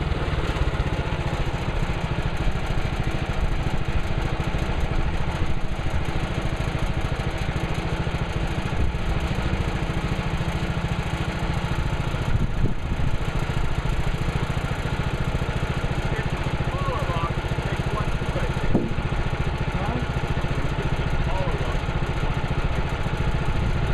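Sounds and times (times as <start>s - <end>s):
sawmill gas engine running: 0.0s - 23.9s.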